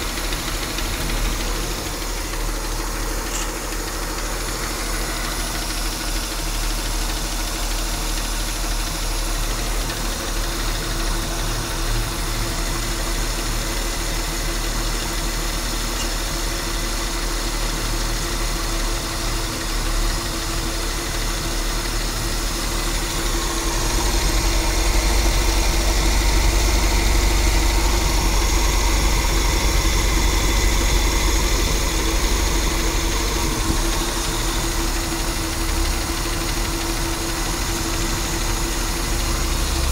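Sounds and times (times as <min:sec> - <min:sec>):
car engine running: 0:00.0 - 0:39.9
engine grinding noise: 0:00.0 - 0:39.9.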